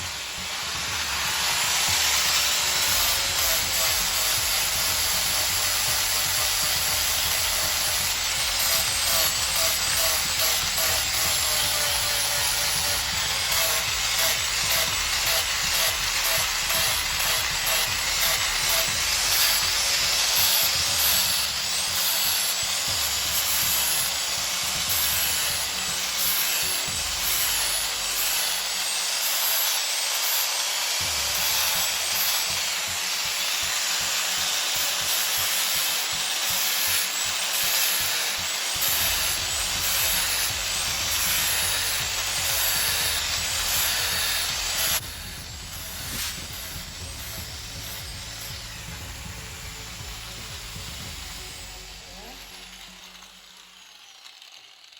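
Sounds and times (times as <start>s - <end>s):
sanding wood: 0.0s - 52.8s.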